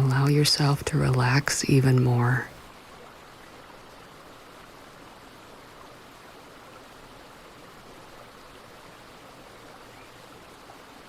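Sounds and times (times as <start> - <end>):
small stream flowing: 0.0 - 11.0.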